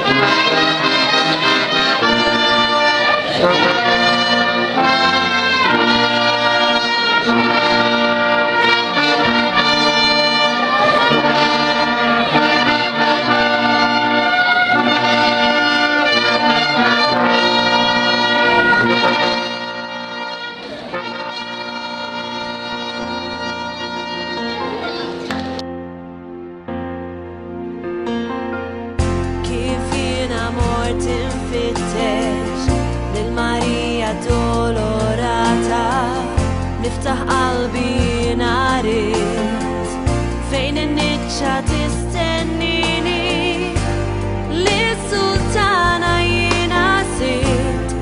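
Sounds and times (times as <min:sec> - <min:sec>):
brass band playing slow music: 0:00.0 - 0:48.0.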